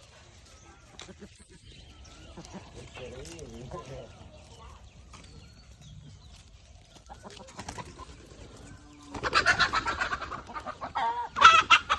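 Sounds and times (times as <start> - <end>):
chickens clucking and squawking: 0.0 - 11.9.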